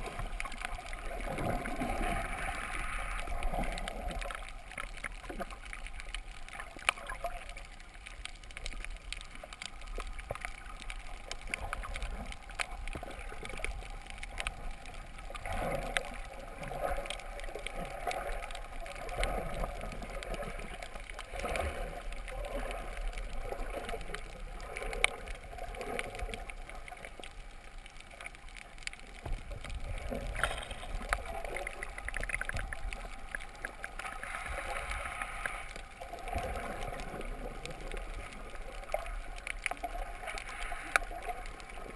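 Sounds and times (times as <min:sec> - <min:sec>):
underwater clicks: 0:00.0 - 0:41.9
underwater water rush: 0:00.0 - 0:41.9.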